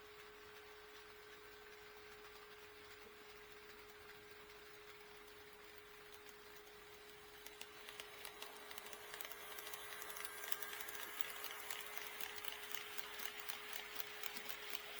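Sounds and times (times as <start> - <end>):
model train wheels clicking on rails: 0.0 - 15.0.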